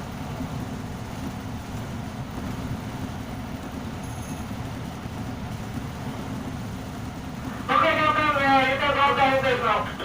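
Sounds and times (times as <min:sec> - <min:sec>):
ship engine rumble: 0:00.0 - 0:10.0.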